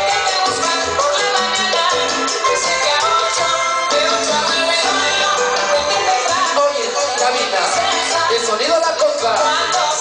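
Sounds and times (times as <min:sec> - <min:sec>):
salsa music over sound system: 0:00.0 - 0:10.0.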